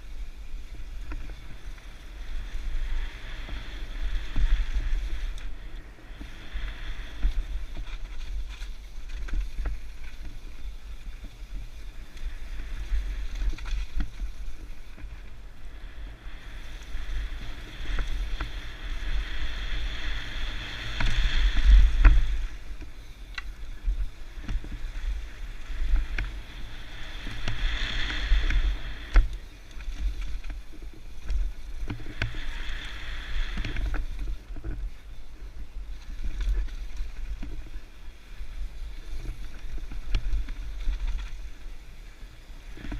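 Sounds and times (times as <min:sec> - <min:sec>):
bike clicks and rattles: 0:00.0 - 0:02.7, 0:03.4 - 0:15.5, 0:20.8 - 0:42.9
wind buffeting microphone: 0:00.0 - 0:41.8
tyre hiss on dirt: 0:00.0 - 0:42.9.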